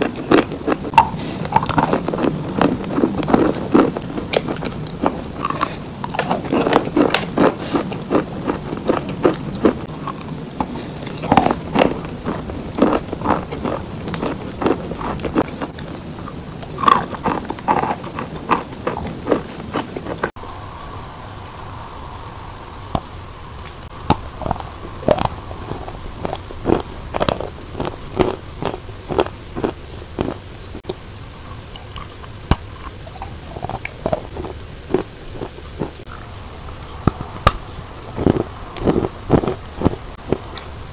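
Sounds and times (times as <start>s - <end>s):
chalk crunching while chewed: 0.0s - 20.4s, 23.7s - 36.2s, 36.8s - 40.8s.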